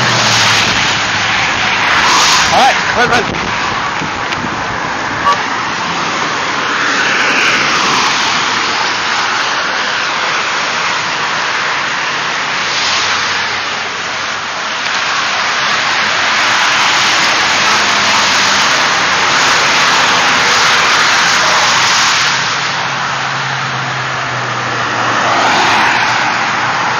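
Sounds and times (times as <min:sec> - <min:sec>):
cars passing at speed: 0:00.0 - 0:26.9.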